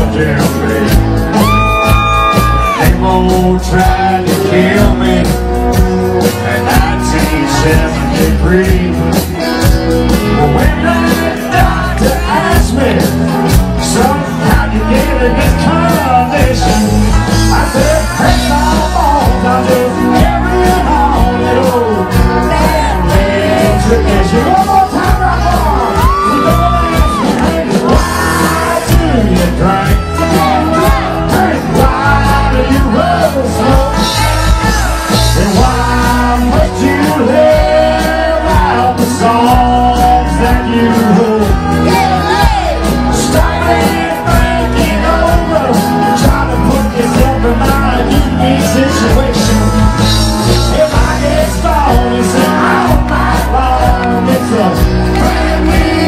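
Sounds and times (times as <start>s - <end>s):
live rock band playing: 0.0s - 56.0s
person singing: 0.0s - 56.0s.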